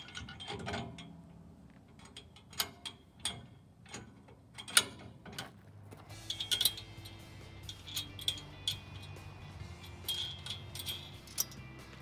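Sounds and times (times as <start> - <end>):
metal parts and bolts clinking: 0.0 - 12.0.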